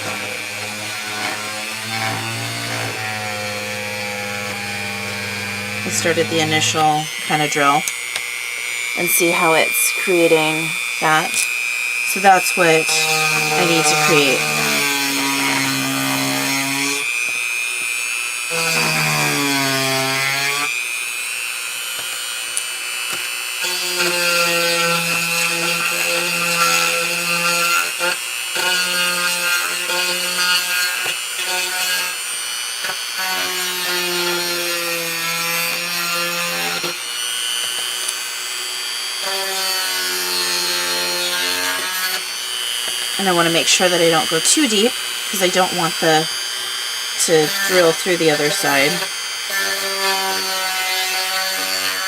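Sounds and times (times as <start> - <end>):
rotary tool grinding wood: 0.0 - 52.0.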